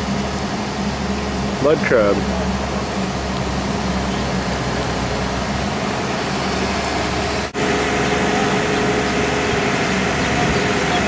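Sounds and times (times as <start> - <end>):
heavy engine running: 0.0 - 11.0.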